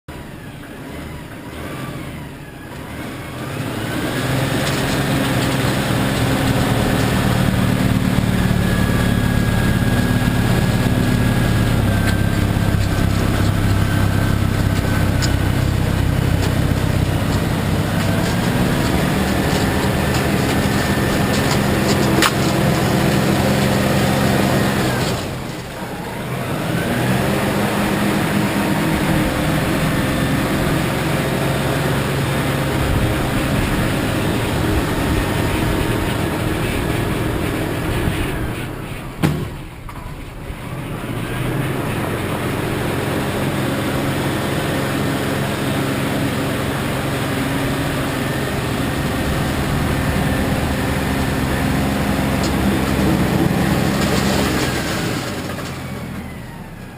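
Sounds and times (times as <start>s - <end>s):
tractor diesel engine running: 0.1s - 56.9s.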